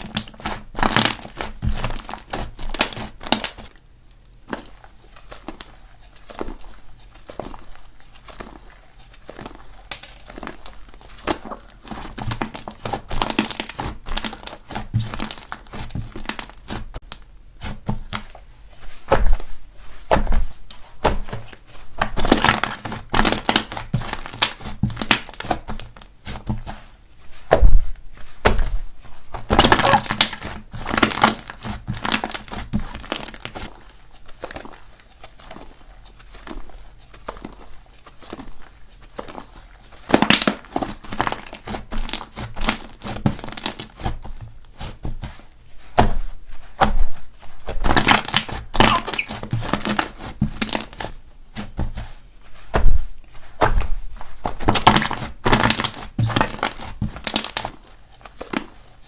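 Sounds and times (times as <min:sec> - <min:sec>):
slime squishing and crackling: 0:00.0 - 0:59.0.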